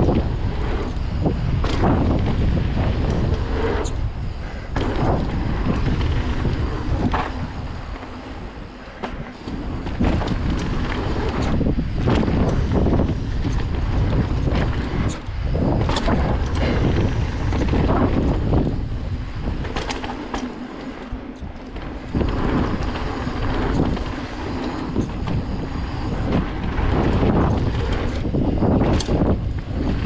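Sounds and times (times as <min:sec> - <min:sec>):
bike clicks and rattles: 0:00.0 - 0:30.0
wind buffeting microphone: 0:00.0 - 0:30.0.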